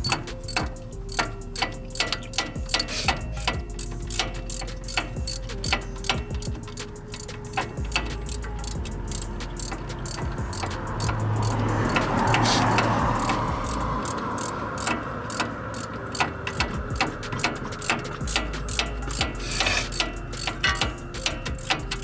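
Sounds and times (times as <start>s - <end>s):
hand ratchet clicking: 0.0s - 22.0s.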